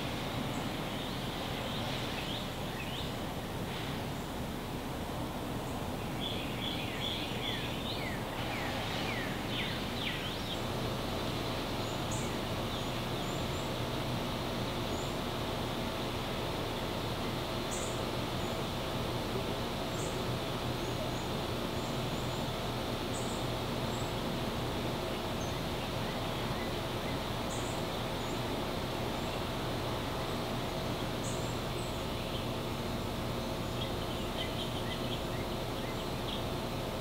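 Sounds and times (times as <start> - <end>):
constant low hum: 0.0 - 37.0.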